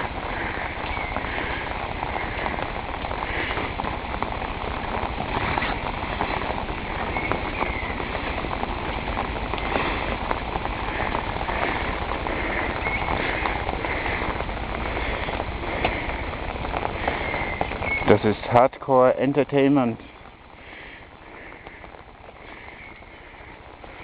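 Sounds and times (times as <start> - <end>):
heavy rain falling: 0.0 - 24.0
raindrops clicking near microphone: 0.0 - 24.0.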